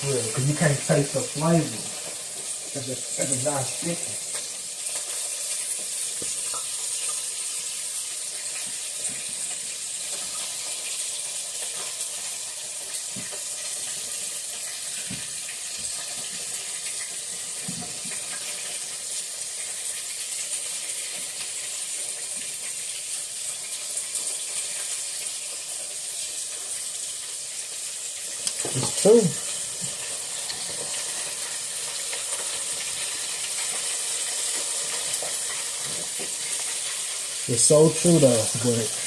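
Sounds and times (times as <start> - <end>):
battered food sizzling in oil: 0.0 - 39.0.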